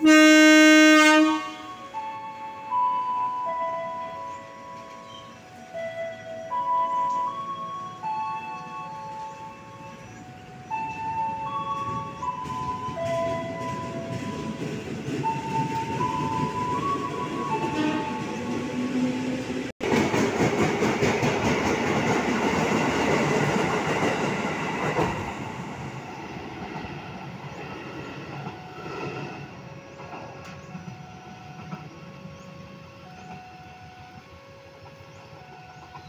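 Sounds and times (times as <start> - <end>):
electric train tones: 0.0 - 36.0
train rumbling: 0.0 - 36.0
train wheels on rails: 1.8 - 36.0.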